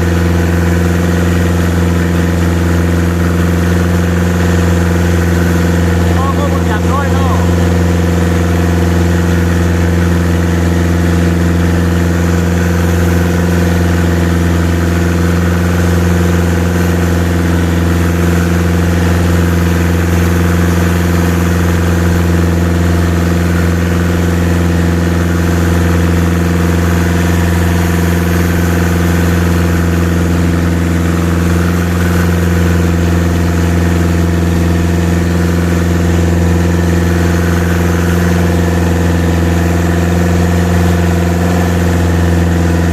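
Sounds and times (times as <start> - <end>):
boat engine humming: 0.0 - 42.9
water wash: 0.0 - 42.9.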